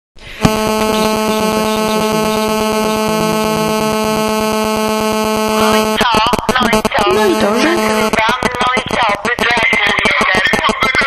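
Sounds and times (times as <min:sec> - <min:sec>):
loud steady buzzing tone: 0:00.2 - 0:11.0.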